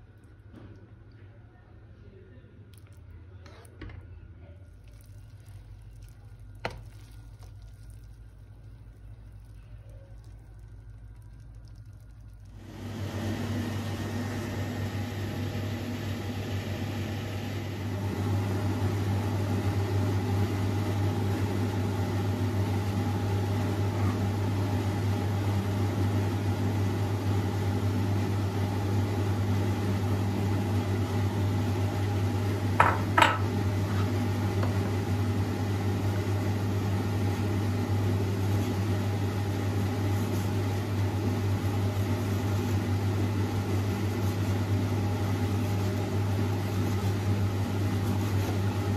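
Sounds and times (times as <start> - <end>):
steady machine hum: 4.0 - 48.9.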